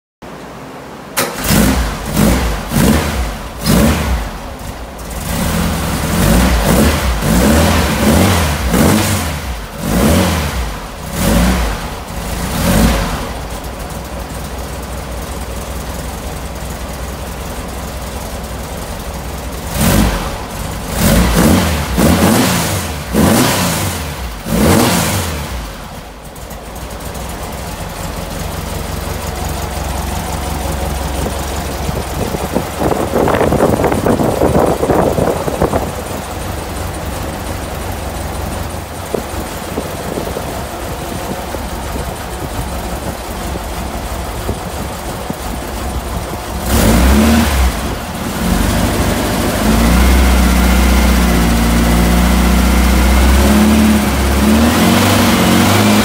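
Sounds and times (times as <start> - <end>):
car engine revving and idling: 0.3 - 56.0.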